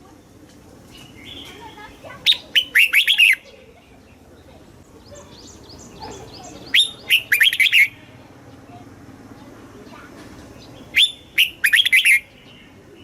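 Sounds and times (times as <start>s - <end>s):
faint bird chirps: 0.9s - 8.8s, 9.4s - 13.0s.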